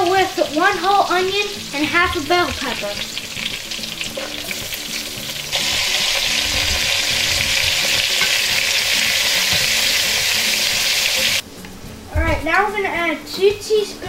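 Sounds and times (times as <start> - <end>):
vegetables sizzling in a hot pot: 0.0 - 11.4.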